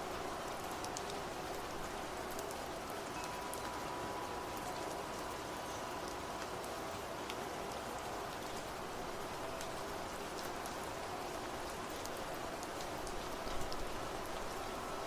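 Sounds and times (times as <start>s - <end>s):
rain drops ticking on a surface: 0.0s - 15.0s.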